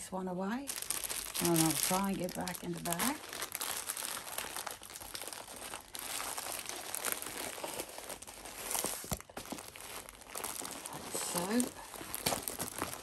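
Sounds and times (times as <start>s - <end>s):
plastic sheet crinkling: 0.6s - 13.0s.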